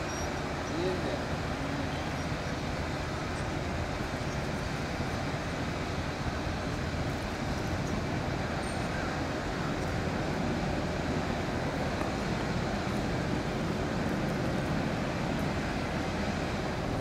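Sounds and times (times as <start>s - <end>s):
hydrofoil waterjets rushing: 0.0s - 17.0s.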